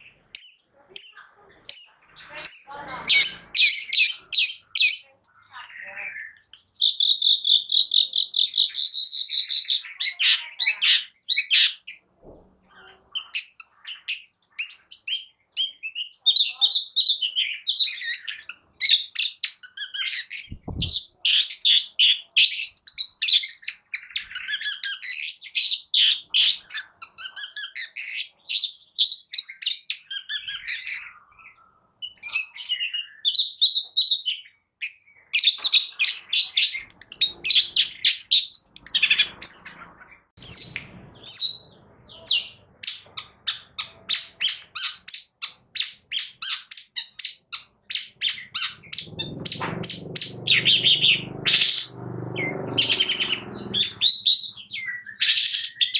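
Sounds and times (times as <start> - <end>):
bird singing chattering notes: 0.0 - 12.0, 13.2 - 55.9.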